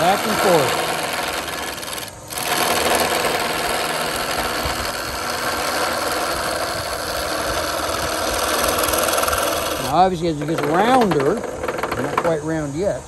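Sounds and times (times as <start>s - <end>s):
lathe running: 0.0s - 12.4s.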